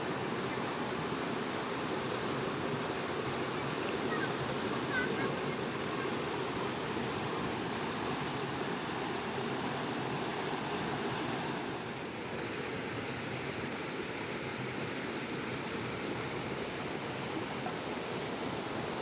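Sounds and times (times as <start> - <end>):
fast-flowing water rushing: 0.0 - 19.0.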